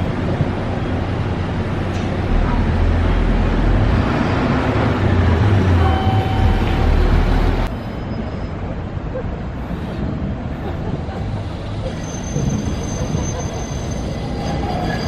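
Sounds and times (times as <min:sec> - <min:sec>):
car tyre and road noise: 0:00.0 - 0:15.0
city street background: 0:00.0 - 0:15.0.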